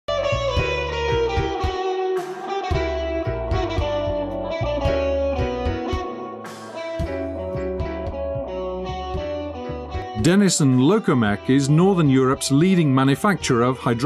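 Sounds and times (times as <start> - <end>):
electric guitar music with bass beat: 0.0 - 14.0.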